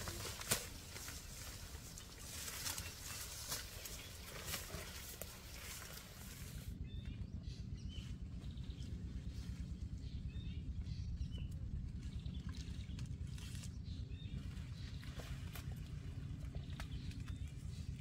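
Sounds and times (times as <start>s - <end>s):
small birds chirping: 0.0s - 18.0s
wind noise rumble: 0.0s - 18.0s.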